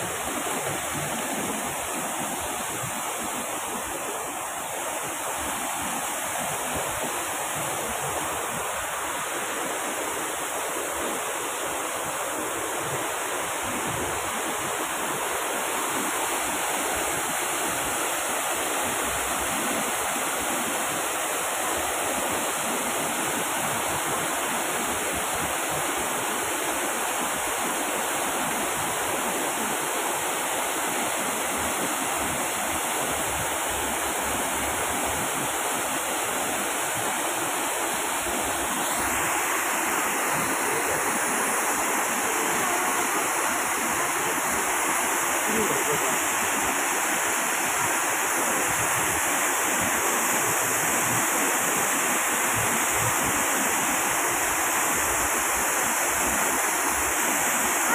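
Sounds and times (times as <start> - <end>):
waterfall splashing into pond: 0.0 - 57.9.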